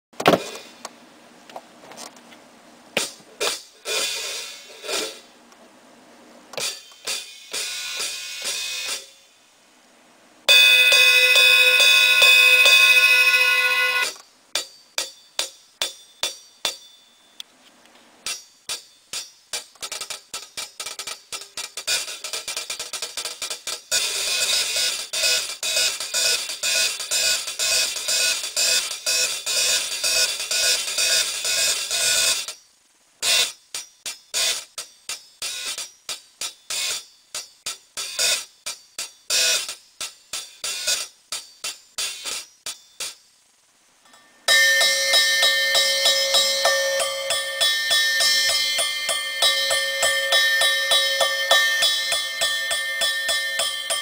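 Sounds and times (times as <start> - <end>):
fast cymbal rhythm: 3.4 - 5.3, 6.6 - 9.3, 10.5 - 17.0, 18.3 - 43.4, 44.5 - 54.0
cymbals struck and ringing: 6.6 - 9.2, 10.5 - 17.4, 18.2 - 43.4, 44.1 - 54.0.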